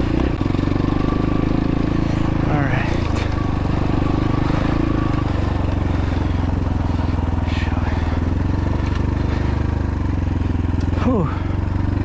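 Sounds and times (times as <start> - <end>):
dirt bike engine idling: 0.0 - 12.0.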